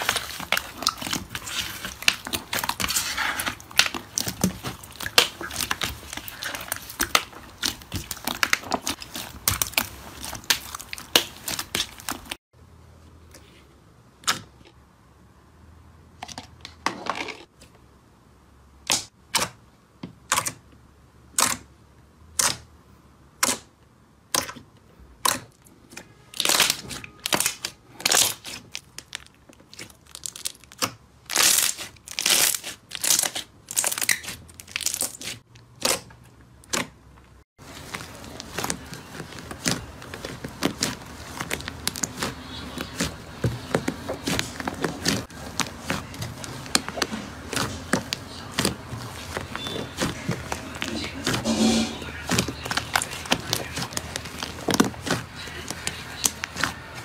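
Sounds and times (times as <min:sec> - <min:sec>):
slime squishing: 0:00.0 - 0:12.4, 0:23.4 - 0:57.0.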